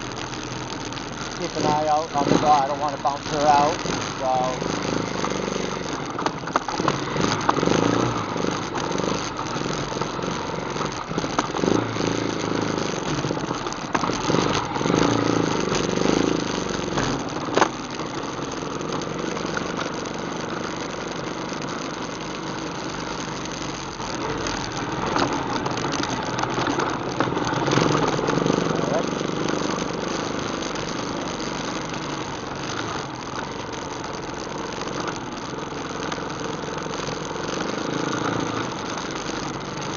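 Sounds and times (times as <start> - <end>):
atv engine running at low speed: 0.0 - 39.9
sharp knocks over rough trail: 0.0 - 39.9.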